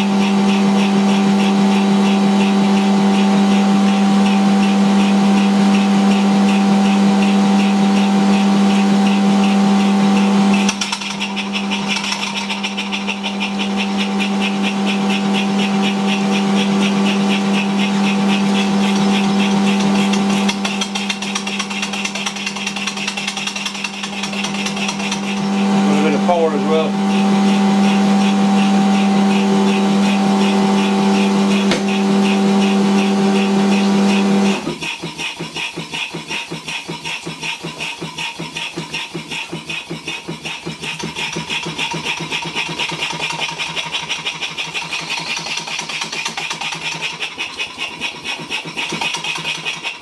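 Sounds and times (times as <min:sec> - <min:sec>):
small steam engine running: 0:00.0 - 0:50.0.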